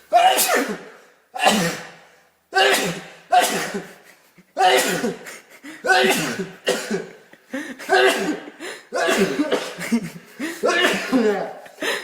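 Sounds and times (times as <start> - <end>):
person coughing or sneezing: 0.1 - 12.0.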